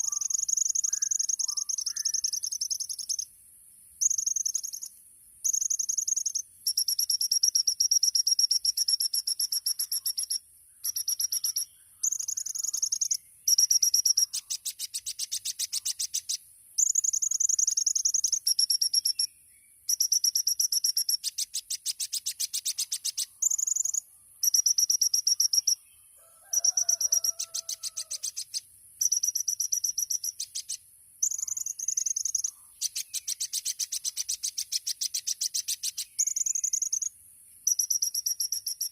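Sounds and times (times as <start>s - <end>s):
bird singing rapid trills: 0.0s - 3.3s, 4.0s - 38.9s
fainter lower bird call: 0.0s - 3.3s, 4.0s - 38.9s.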